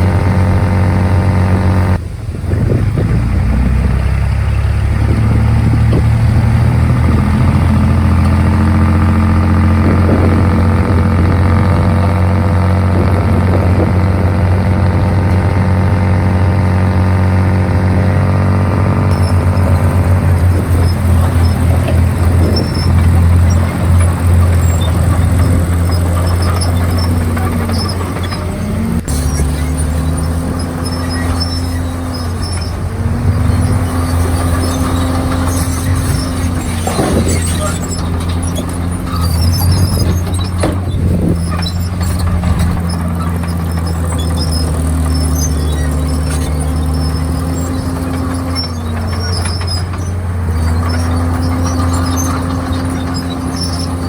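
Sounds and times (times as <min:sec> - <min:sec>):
bulldozer diesel engine lugging: 0:00.0 - 0:54.0.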